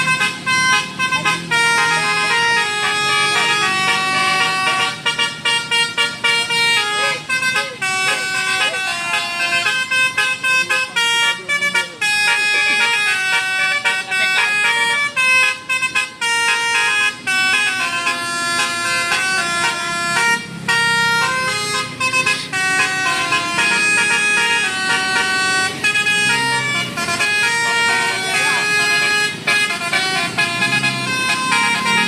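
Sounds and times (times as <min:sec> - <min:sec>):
bus musical horn melody: 0:00.0 - 0:32.0.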